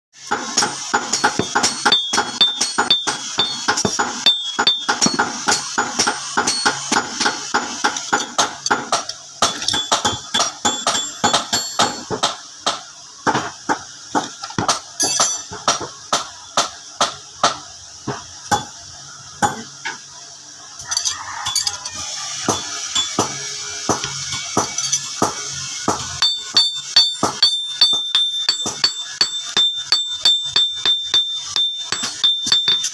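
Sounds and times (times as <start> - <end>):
sharp hammer strikes: 0.3 - 17.6, 22.4 - 32.9.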